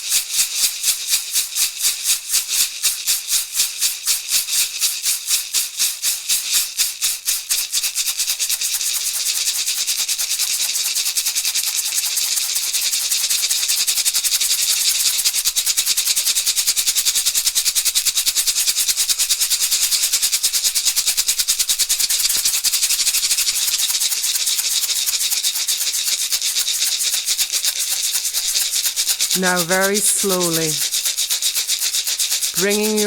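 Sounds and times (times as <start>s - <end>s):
rattle shaken fast: 0.0s - 33.0s.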